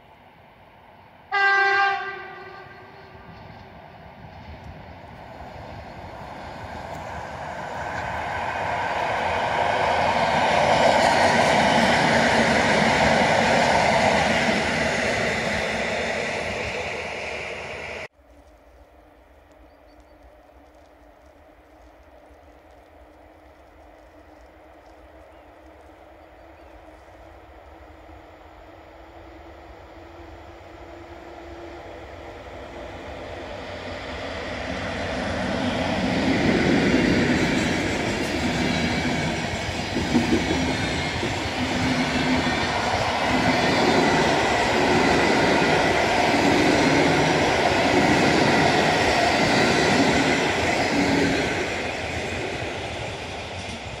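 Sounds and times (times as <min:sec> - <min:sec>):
train passing at speed: 0:00.0 - 0:18.2, 0:22.0 - 0:54.0
wheels on rail: 0:00.0 - 0:54.0.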